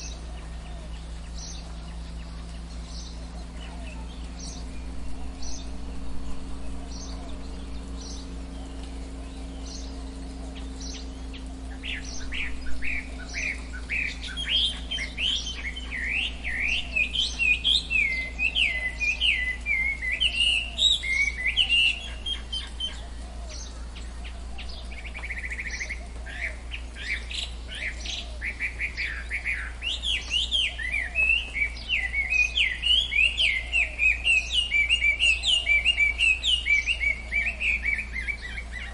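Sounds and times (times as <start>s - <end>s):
birds chirping: 0.0s - 38.9s
low background hum: 0.0s - 38.9s.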